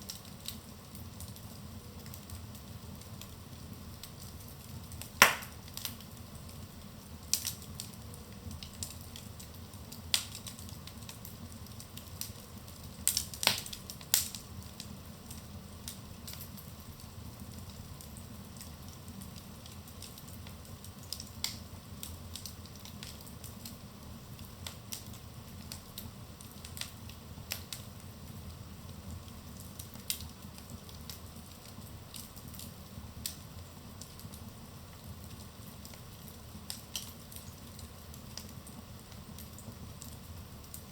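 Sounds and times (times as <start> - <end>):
fire popping and snapping: 0.0 - 40.9
wood fire crackling: 0.0 - 40.9.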